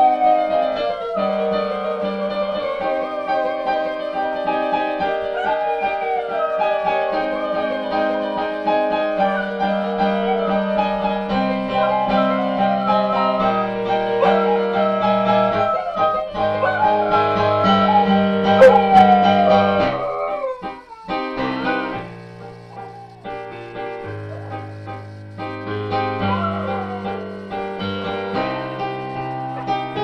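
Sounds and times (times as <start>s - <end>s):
dog howling: 0.0s - 25.3s, 26.0s - 30.0s
slow piano chords: 0.0s - 30.0s.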